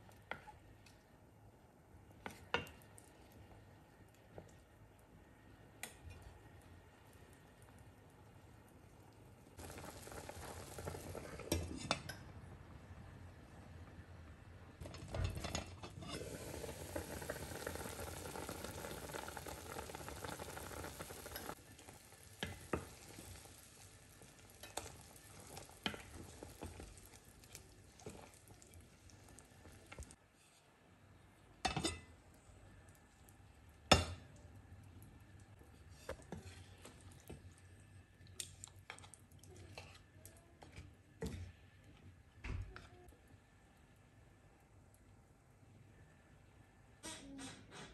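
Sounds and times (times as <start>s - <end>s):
soup boiling in a pot: 0.0s - 47.1s.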